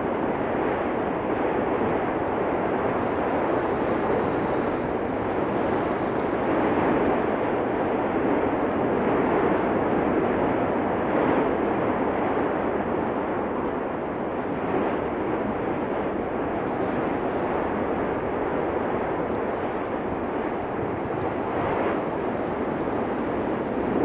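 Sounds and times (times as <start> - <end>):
volcano eruption roar: 0.0 - 24.0.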